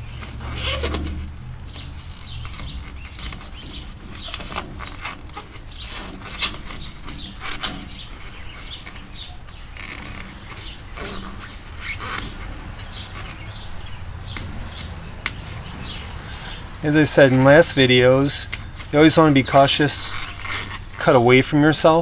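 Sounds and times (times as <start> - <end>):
foam insulation scraping and rustling: 0.0 - 22.0.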